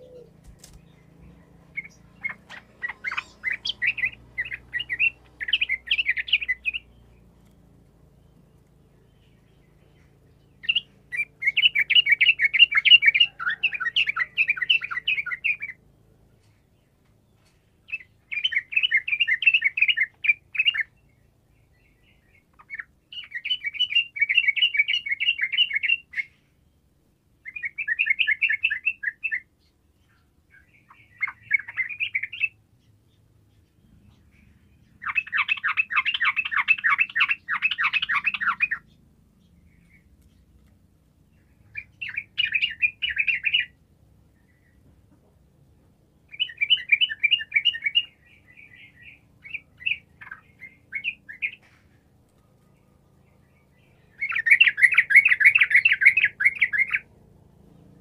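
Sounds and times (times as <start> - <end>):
bird chattering song: 0.0 - 45.3, 46.2 - 57.2.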